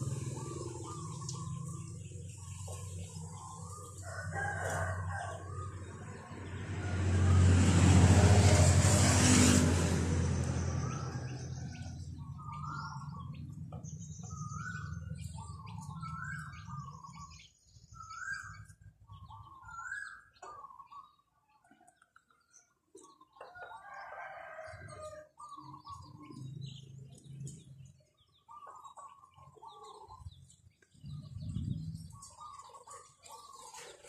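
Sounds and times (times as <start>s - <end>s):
chickens crowing and clucking: 0.0s - 9.0s, 9.6s - 22.2s, 22.9s - 34.0s.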